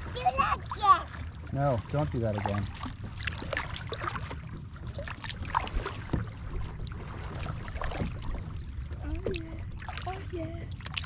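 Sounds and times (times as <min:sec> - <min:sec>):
steady low rumble: 0:00.0 - 0:11.0
water lapping against kayak hull: 0:00.0 - 0:11.0.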